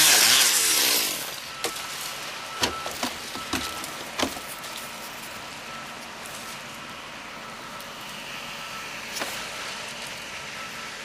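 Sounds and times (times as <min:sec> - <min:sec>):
truck engine running: 0:00.8 - 0:11.0.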